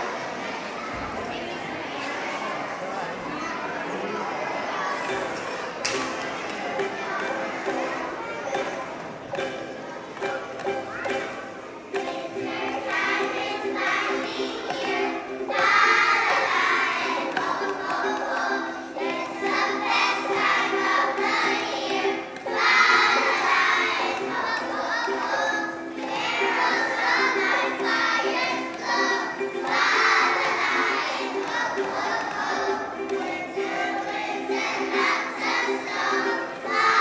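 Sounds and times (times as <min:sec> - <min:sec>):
children's choir singing: 0:00.0 - 0:37.0
held accompaniment notes: 0:00.0 - 0:37.0.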